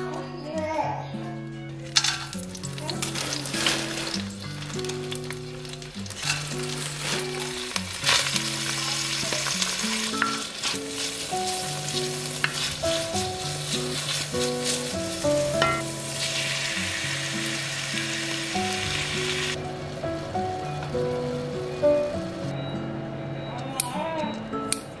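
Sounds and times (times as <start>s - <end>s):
soft background music: 0.0s - 25.0s
onion sizzling in oil: 1.9s - 22.5s.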